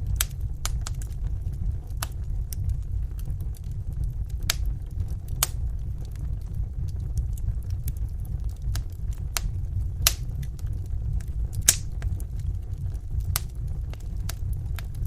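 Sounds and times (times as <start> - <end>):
fire crackling and popping: 0.0 - 15.0
fire rumbling in a fireplace: 0.0 - 15.0.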